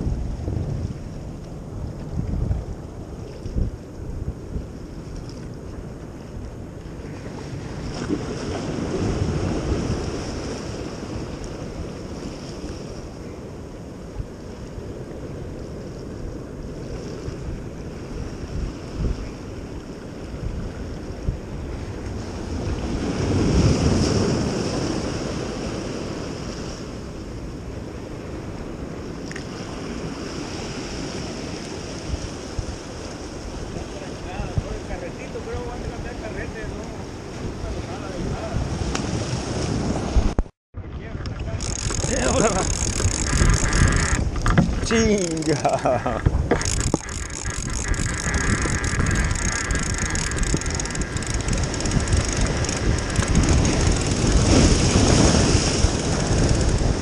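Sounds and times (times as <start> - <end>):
surf washing against rocks: 0.0 - 57.0
wind buffeting microphone: 0.0 - 57.0.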